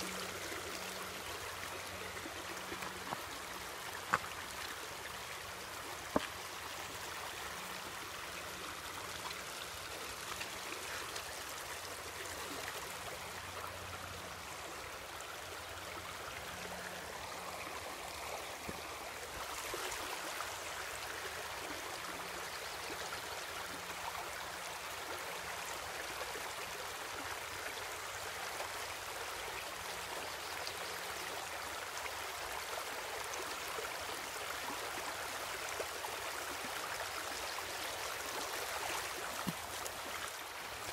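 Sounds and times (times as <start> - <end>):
creek water rushing over stones: 0.0 - 40.9.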